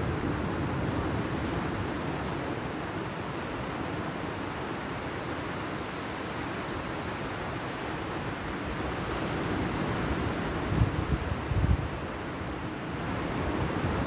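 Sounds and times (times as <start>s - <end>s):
surf on a beach: 0.0s - 14.0s
wind: 0.0s - 14.0s.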